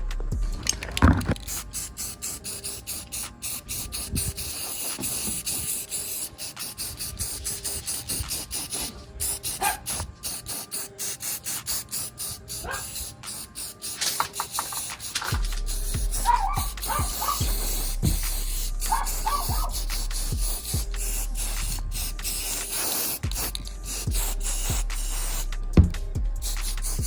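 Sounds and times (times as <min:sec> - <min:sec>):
spray paint can hissing: 0:00.5 - 0:27.0.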